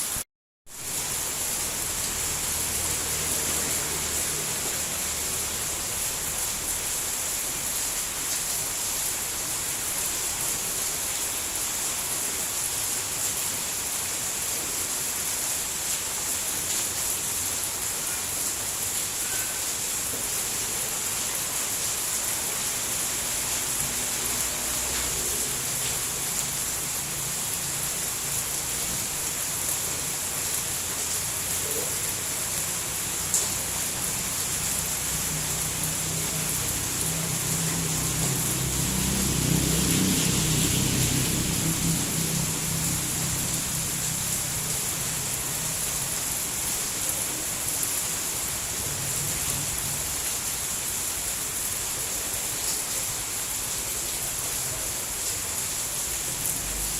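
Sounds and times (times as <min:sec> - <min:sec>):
rain falling: 0:00.0 - 0:56.9.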